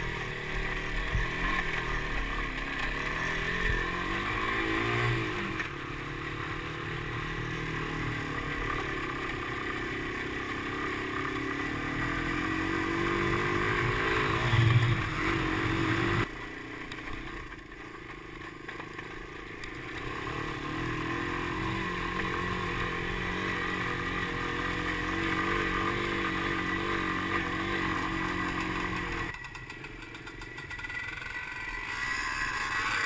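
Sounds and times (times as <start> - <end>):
dirt bike engine revving: 0.0 - 16.3, 18.4 - 33.0.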